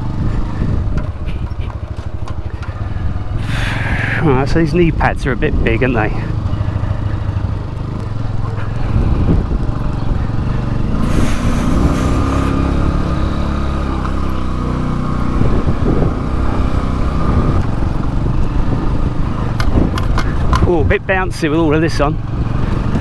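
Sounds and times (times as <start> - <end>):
motorbike engine running: 0.0 - 23.0.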